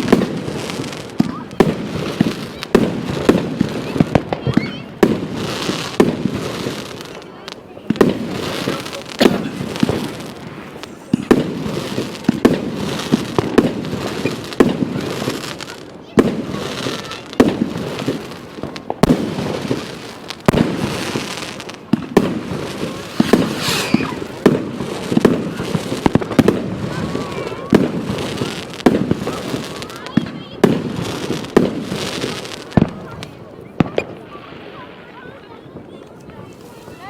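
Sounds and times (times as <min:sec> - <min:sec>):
fireworks bangs with echo: 0:00.0 - 0:37.0.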